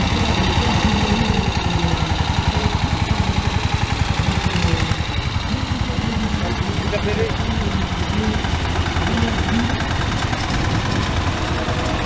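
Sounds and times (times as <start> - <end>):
tractor engines pulsing: 0.0 - 12.0.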